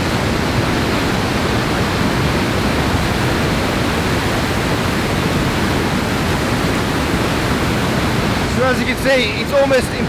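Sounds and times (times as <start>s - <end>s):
waterfalls thundering: 0.0s - 10.0s.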